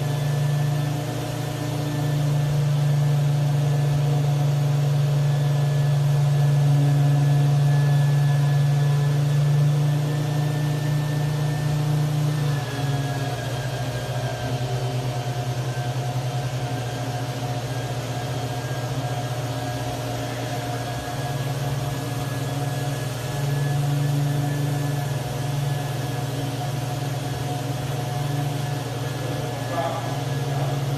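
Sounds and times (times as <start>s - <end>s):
motor humming: 0.0s - 30.9s.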